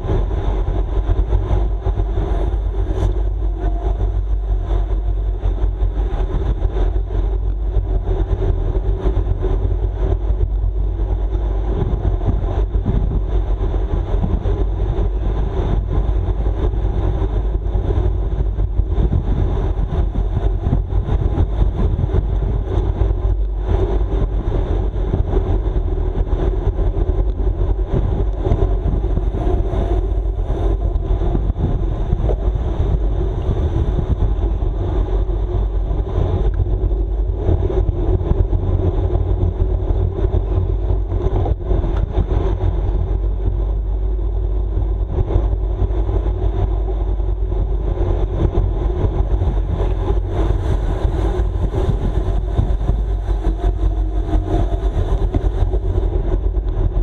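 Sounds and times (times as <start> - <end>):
road noise from bike: 0.0 - 57.0
wind buffeting microphone: 0.0 - 57.0
wind rush: 0.0 - 57.0.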